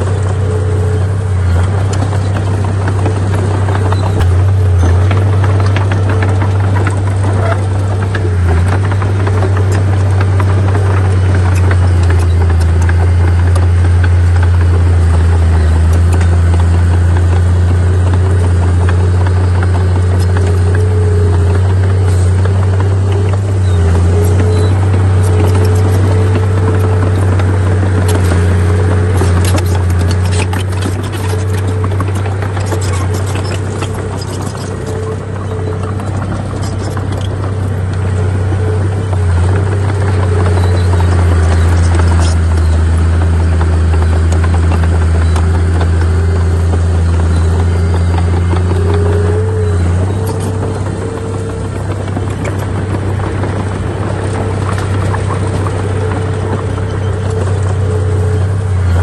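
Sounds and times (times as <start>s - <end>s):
heavy diesel engine drone: 0.0s - 59.0s.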